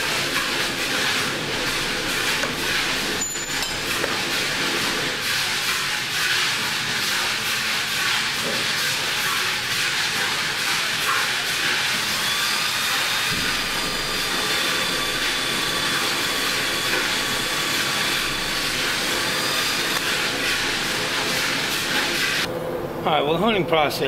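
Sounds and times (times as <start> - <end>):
power drill running: 0.0 - 22.5.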